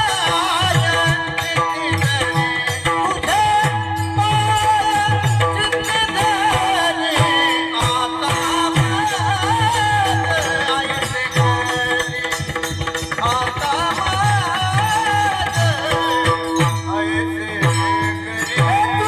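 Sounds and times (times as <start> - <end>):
man singing ornamented melody: 0.0 - 19.0.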